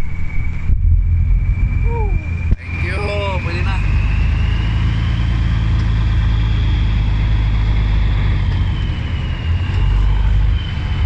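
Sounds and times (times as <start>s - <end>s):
high whine: 0.0s - 11.0s
truck engine rumble: 0.0s - 11.0s.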